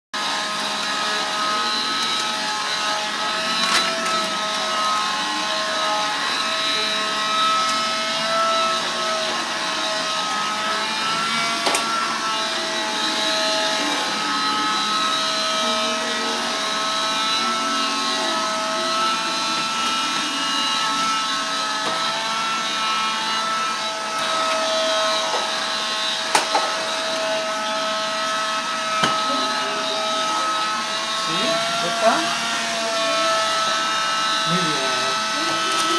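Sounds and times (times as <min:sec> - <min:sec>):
vacuum cleaner running: 0:00.2 - 0:35.9.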